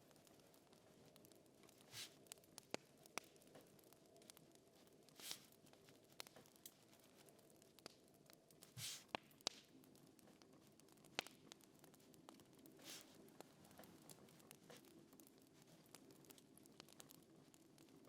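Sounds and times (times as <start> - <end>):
crackling fire pops: 0.0 - 18.0.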